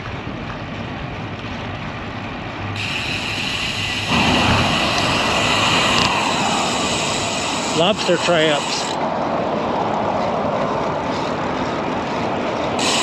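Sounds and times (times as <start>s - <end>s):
bike tyres rolling on pavement: 0.0s - 13.0s
wind: 0.0s - 13.0s
motor vehicle passing: 0.5s - 13.0s.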